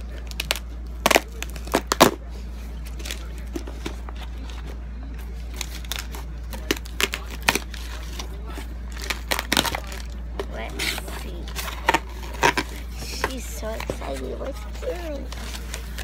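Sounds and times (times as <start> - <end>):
steady low hum: 0.0 - 16.0
tape and packing paper crinkling: 0.0 - 16.0.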